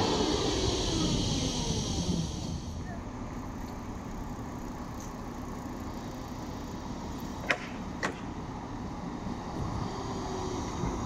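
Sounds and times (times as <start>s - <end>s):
city traffic rumble: 0.0s - 11.0s
passing vehicle hiss: 0.0s - 11.0s.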